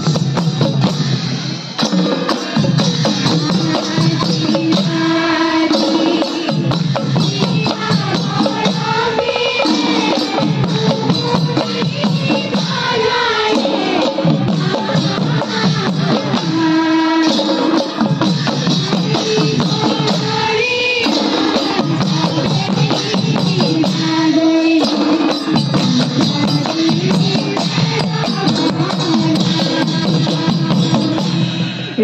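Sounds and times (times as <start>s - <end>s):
hand drums beating: 1.8s - 20.4s, 21.0s - 31.5s
women singing a devotional chant: 1.9s - 32.0s.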